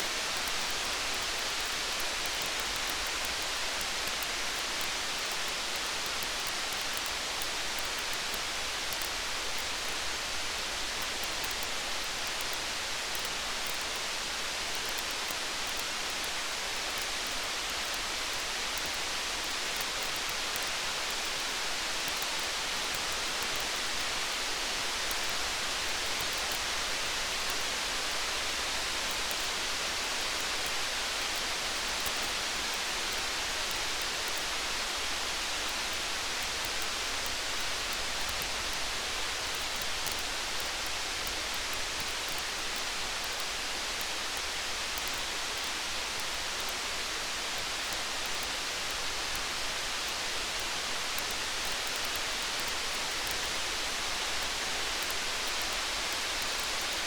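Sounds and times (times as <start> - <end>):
faint campfire crackles: 0.0 - 57.0
steady rain hiss: 0.0 - 57.0.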